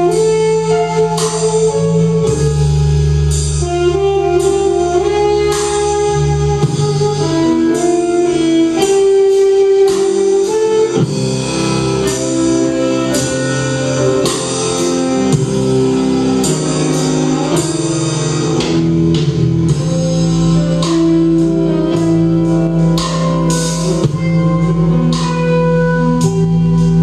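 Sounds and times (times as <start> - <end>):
drum and cymbal strikes: 0.0 - 27.0
rock band playing: 0.0 - 27.0.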